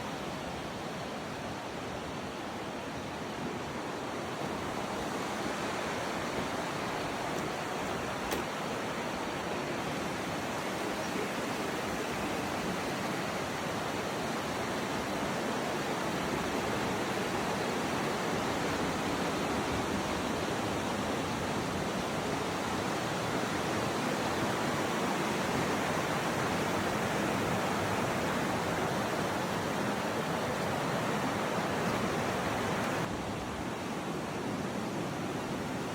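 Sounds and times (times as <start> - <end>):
river water rushing: 0.0 - 35.9.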